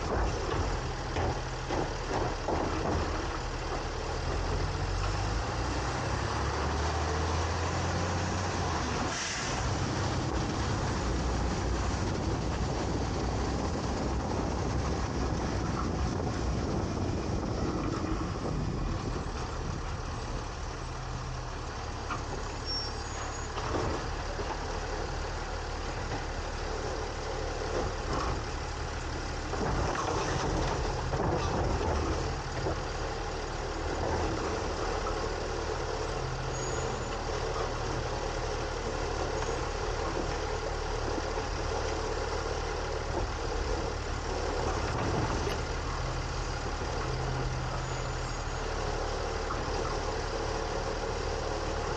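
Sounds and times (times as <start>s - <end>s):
garbage truck engine running: 0.0s - 51.9s.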